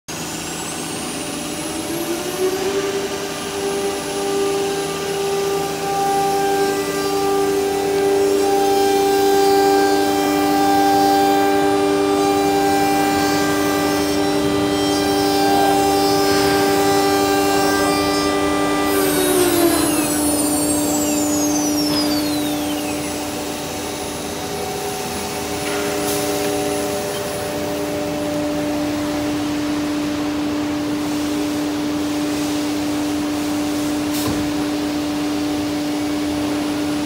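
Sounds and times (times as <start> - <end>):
router spindle whining: 0.1 - 31.1.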